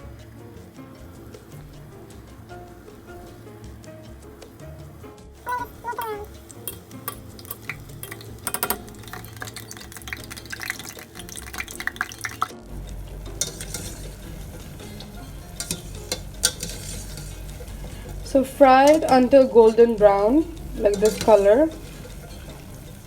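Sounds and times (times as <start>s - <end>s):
dough frying in hot oil: 0.0s - 23.0s
metal utensil scraping pot: 0.0s - 23.0s.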